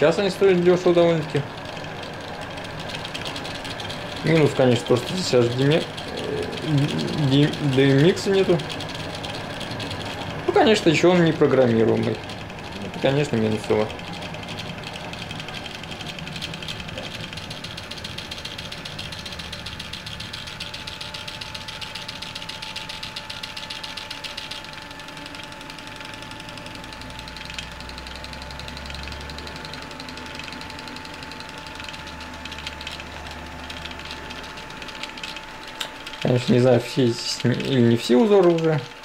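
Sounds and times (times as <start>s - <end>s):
steady whine: 0.0s - 39.0s
stepper motors chattering: 0.0s - 39.0s.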